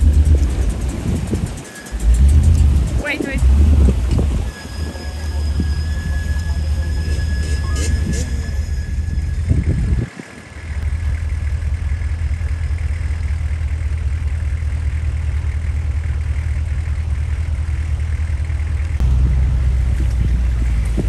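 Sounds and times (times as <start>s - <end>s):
off-road engine running: 0.0s - 21.0s.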